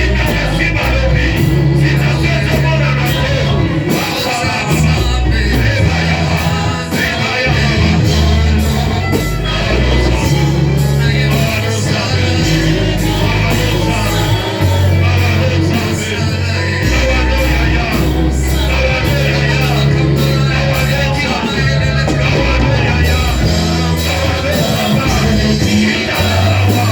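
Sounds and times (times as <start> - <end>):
heavy bass line: 0.0 - 26.9
people singing: 0.0 - 26.9
worship band playing: 0.0 - 26.9.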